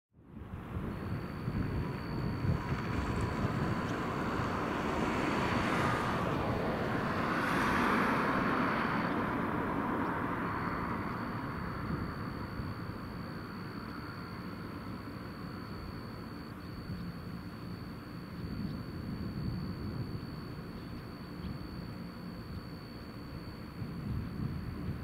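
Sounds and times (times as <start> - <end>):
distant turboprops droning: 0.2 - 25.0
thin steady high tone: 0.2 - 25.0.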